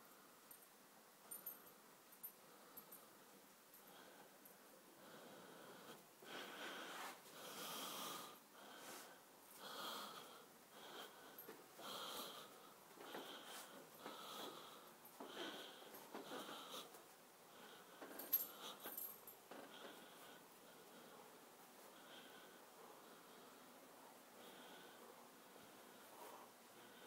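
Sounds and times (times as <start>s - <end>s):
wheezy breathing: 2.5s - 27.0s.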